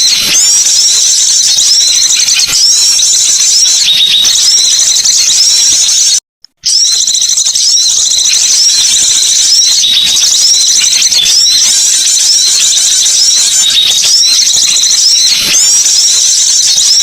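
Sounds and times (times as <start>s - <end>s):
songbirds chattering: 0.0s - 6.1s, 6.7s - 17.0s.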